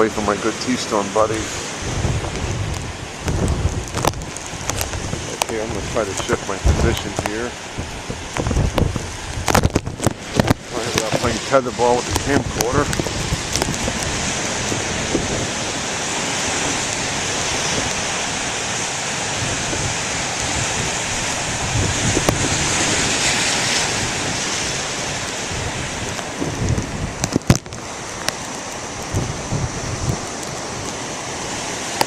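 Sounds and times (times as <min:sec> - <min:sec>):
surf breaking on rocky shore: 0:00.0 - 0:32.0
wind buffeting microphone: 0:00.0 - 0:32.0.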